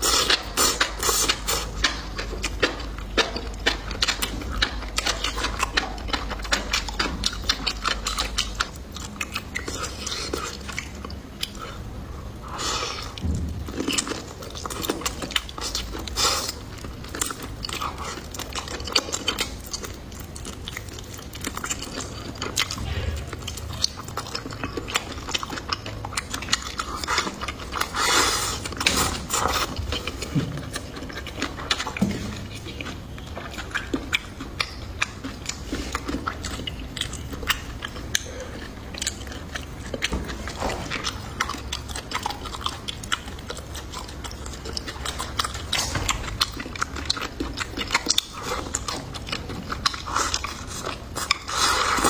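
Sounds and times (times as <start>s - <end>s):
person chewing crunchy food: 0.0s - 52.0s.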